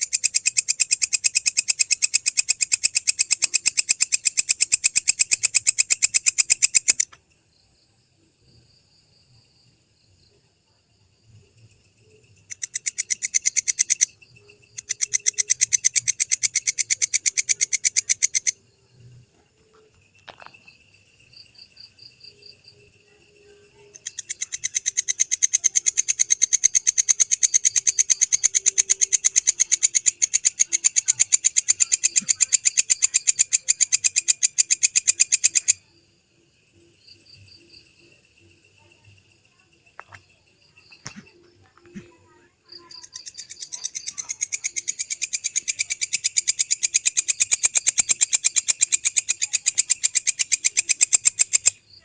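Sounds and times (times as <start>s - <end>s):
bush cricket calling: 0.0s - 52.0s
faint insect chirps: 0.0s - 52.0s.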